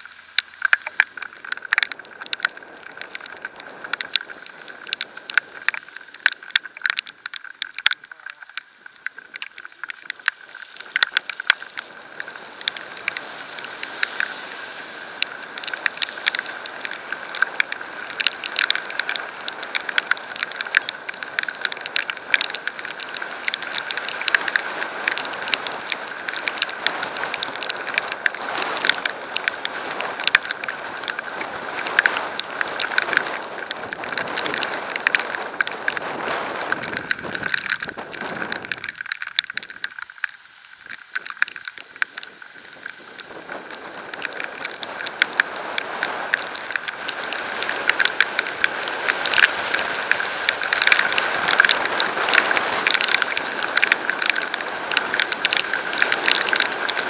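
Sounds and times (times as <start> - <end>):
rain drumming on camera housing: 0.0 - 57.0
wet road noise: 0.0 - 57.0.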